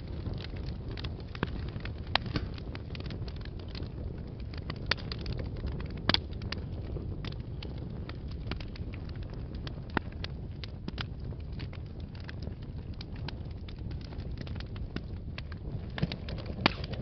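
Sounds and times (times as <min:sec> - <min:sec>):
fire burning in fireplace: 0:00.0 - 0:17.0
fire crackles and pops: 0:00.0 - 0:17.0.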